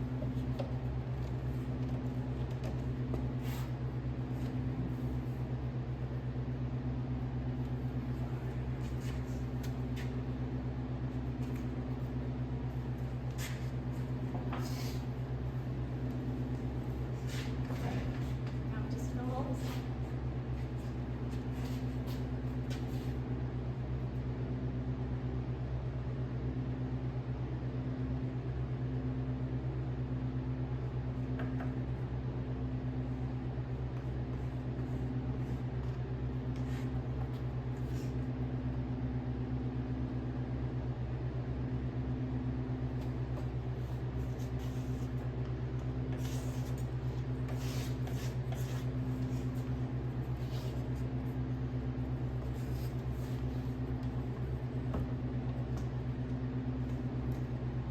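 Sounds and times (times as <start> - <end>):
machine humming steadily: 0.0 - 57.9.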